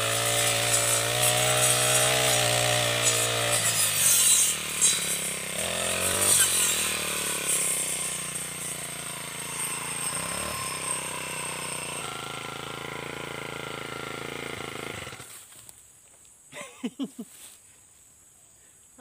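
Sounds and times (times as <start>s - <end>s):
brush cutter engine running: 0.0s - 15.4s.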